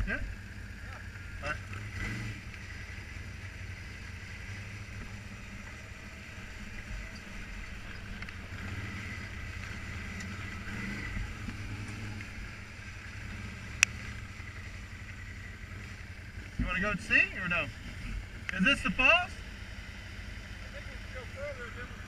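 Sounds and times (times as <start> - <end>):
atv engine running: 0.0 - 22.0
tires rolling on gravel: 0.1 - 22.0.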